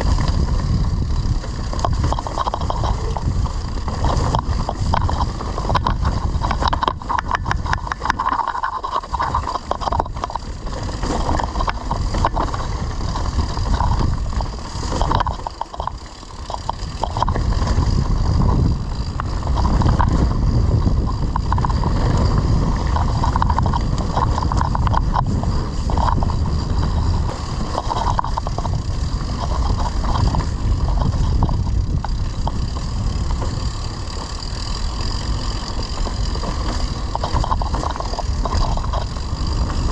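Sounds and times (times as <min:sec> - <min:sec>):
bike clicks and rattles: 0:00.0 - 0:39.9
wind rumbling on microphone: 0:00.0 - 0:39.9.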